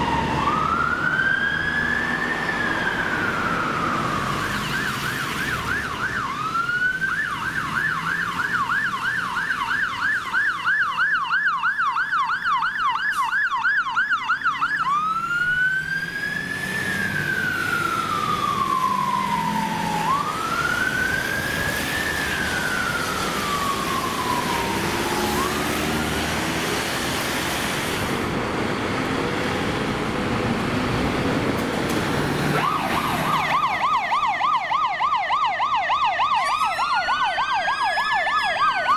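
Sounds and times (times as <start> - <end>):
fire engine siren: 0.0 - 38.9
traffic on wet road: 0.0 - 38.9.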